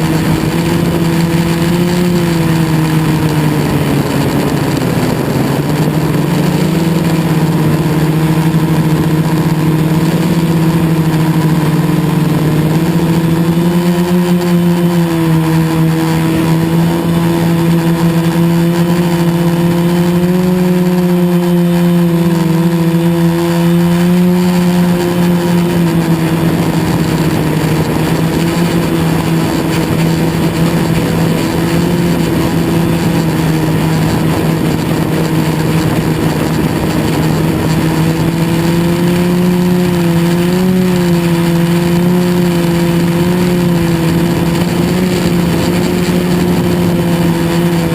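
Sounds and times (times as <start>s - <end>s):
drone propellers buzzing: 0.0s - 47.9s.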